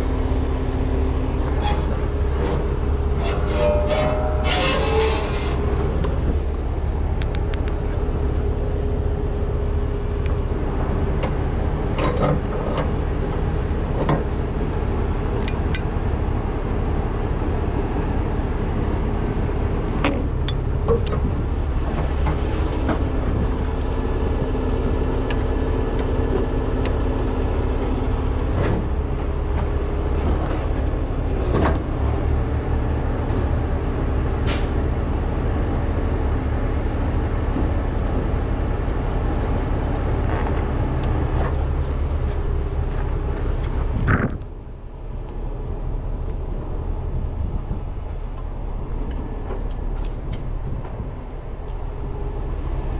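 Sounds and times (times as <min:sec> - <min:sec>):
truck diesel engine running: 0:00.0 - 0:44.0.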